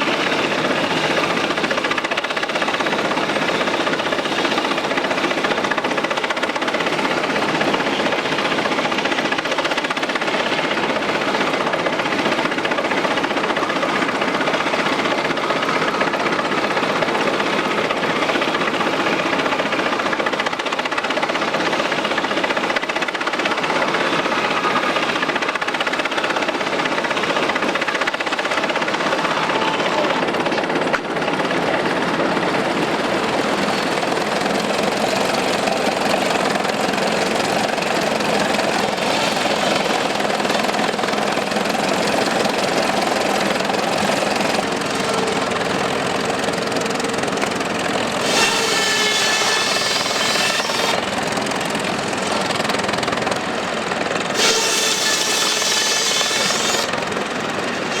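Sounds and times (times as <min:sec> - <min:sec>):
sawmill machinery clattering: 0:00.0 - 0:58.0.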